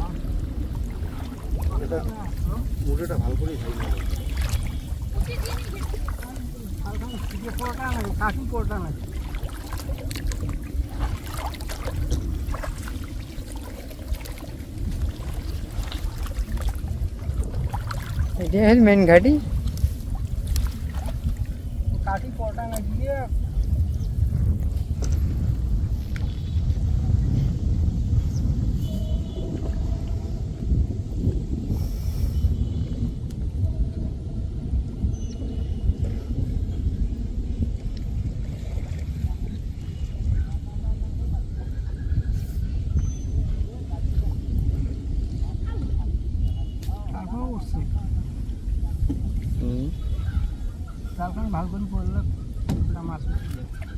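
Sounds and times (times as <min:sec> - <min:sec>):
steady low rumble: 0:00.0 - 0:53.8
water splashing and trickling: 0:00.0 - 0:53.9
wind buffeting microphone: 0:00.0 - 0:53.9.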